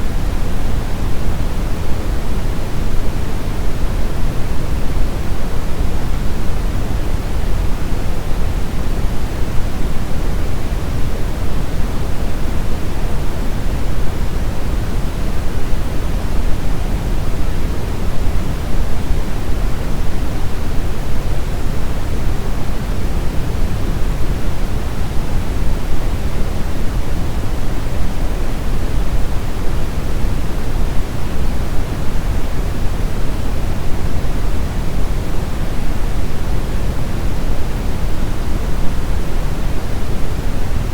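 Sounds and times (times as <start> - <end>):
brown noise hiss and rumble: 0.0 - 40.9.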